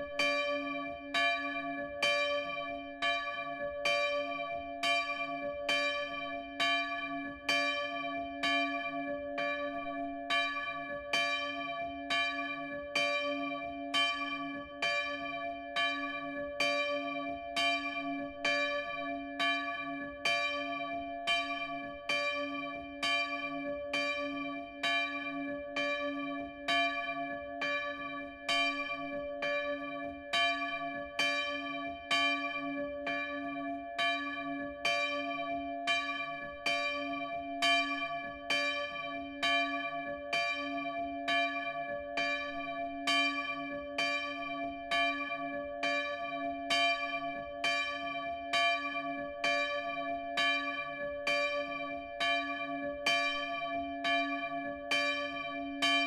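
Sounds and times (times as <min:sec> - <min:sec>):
church bell ringing: 0:00.0 - 0:56.0.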